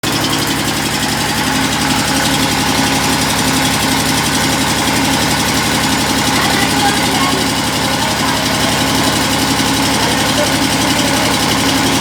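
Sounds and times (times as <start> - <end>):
machinery throbbing: 0.0 - 12.0.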